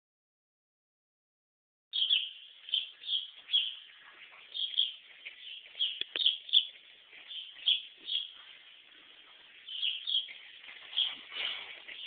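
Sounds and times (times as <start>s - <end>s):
birds chirping: 1.9s - 12.0s.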